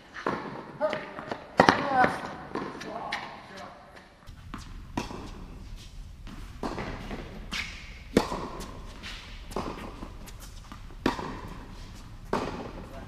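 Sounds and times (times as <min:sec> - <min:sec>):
tennis racket hitting ball: 0:00.2 - 0:03.3, 0:04.3 - 0:13.0.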